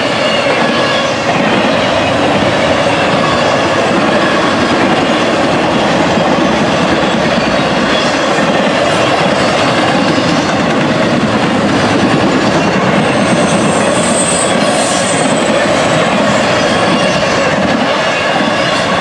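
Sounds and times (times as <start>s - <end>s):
high wheel squeal: 0.0s - 19.0s
train wheels clickety-clack: 0.0s - 19.0s.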